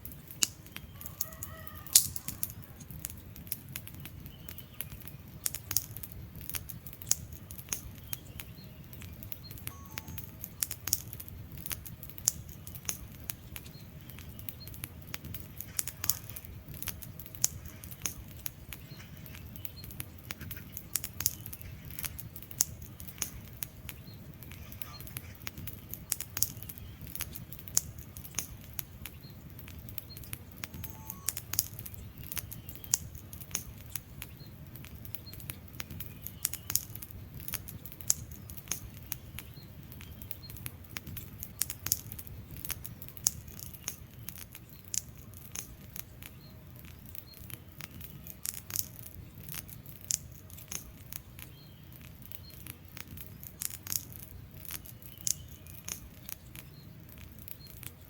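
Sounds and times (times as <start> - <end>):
burning logs popping and snapping: 0.0 - 58.0
low rumble of flames: 0.0 - 58.0.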